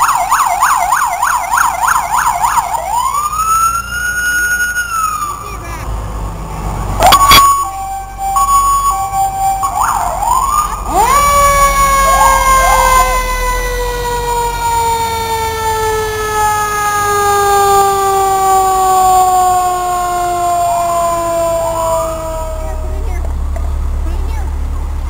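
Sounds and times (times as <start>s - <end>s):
fire engine siren: 0.0s - 5.6s, 7.0s - 23.2s.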